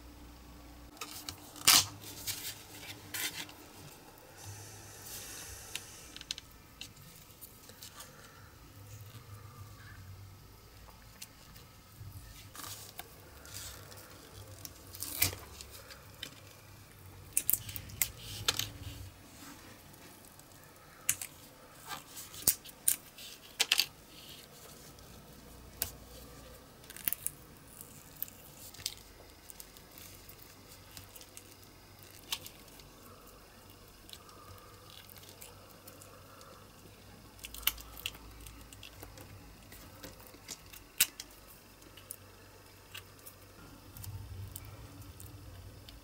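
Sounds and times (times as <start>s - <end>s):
soft squishing: 0.9s - 46.0s.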